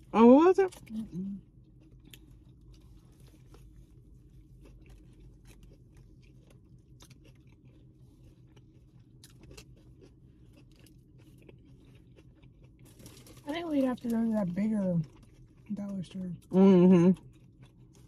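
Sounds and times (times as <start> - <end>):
chewing crunches: 0.0 - 18.0
low steady hum: 0.0 - 18.0.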